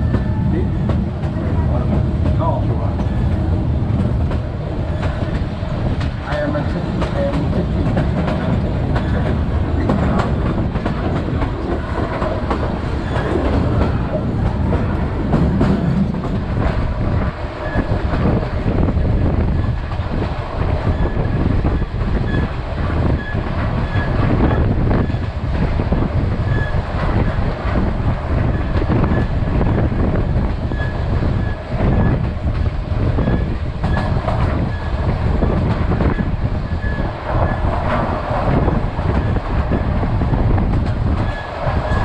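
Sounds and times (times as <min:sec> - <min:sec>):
train rumbling: 0:00.0 - 0:42.0.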